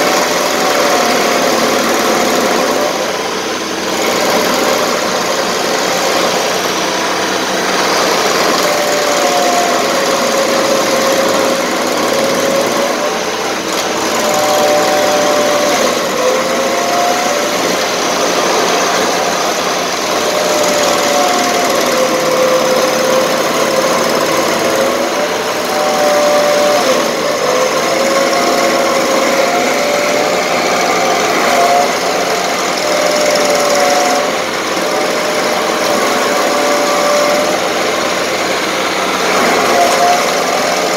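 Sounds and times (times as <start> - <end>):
engine running: 0.0 - 40.9
stump grinder grinding wood: 0.0 - 40.9.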